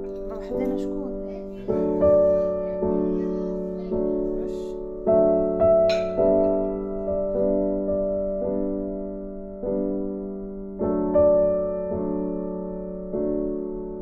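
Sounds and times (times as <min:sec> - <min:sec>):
slow gentle piano: 0:00.0 - 0:14.0.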